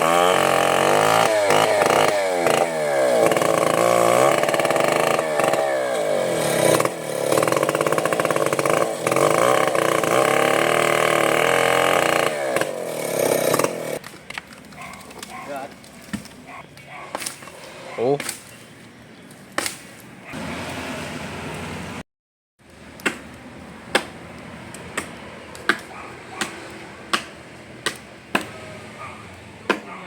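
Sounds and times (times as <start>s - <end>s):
chainsaw cutting wood: 0.0s - 15.4s, 19.6s - 22.0s, 23.0s - 30.0s.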